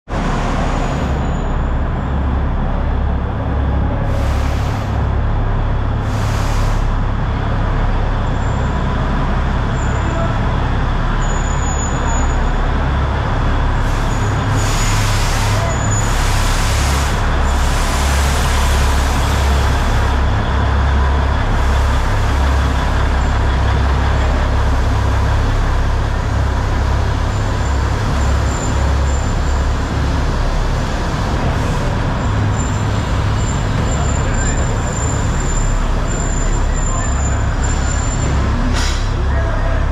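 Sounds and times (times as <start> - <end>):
diesel locomotive engine rumble: 0.0 - 39.9.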